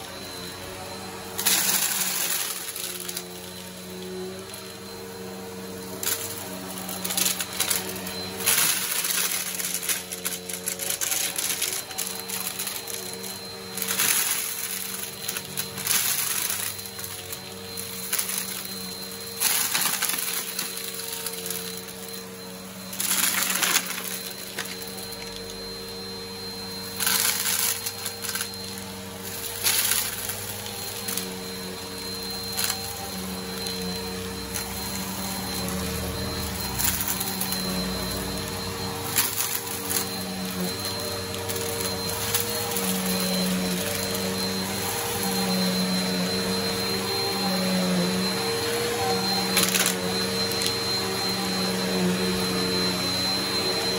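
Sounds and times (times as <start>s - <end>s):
debris rattling in vacuum: 0.0s - 53.9s
vacuum cleaner running: 0.0s - 53.9s.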